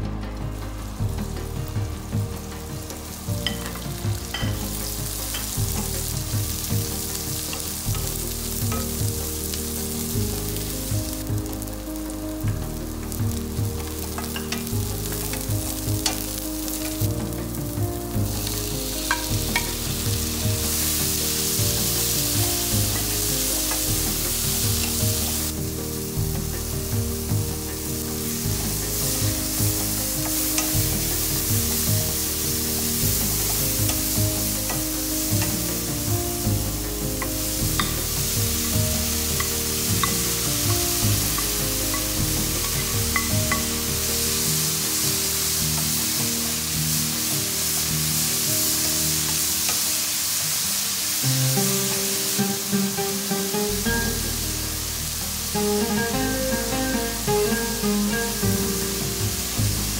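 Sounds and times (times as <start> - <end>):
onion sizzling in hot oil: 0.0 - 59.9.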